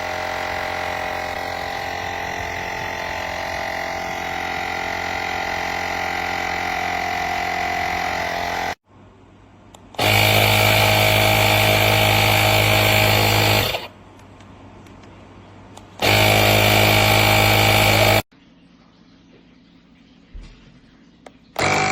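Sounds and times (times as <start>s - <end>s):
air compressor motor hum: 0.0s - 8.8s, 9.7s - 18.3s, 21.6s - 21.9s.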